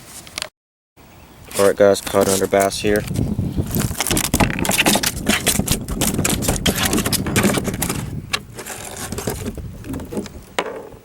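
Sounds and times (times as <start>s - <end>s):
scraping and clicking handling noise: 1.5s - 10.9s.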